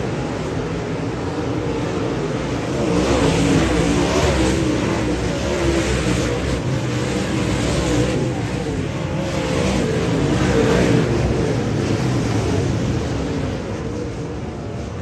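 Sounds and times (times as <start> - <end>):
race car engine revving: 0.0 - 14.2
steady noisy rush: 0.0 - 15.0.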